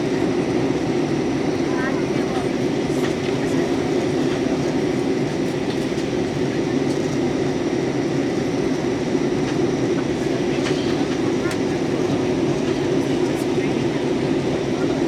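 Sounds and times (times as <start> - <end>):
jet cabin drone: 0.0 - 15.0.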